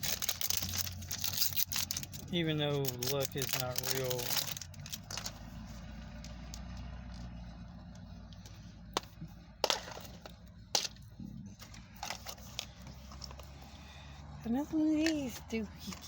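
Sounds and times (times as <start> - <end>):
scraping and rustling: 0.0 - 13.8.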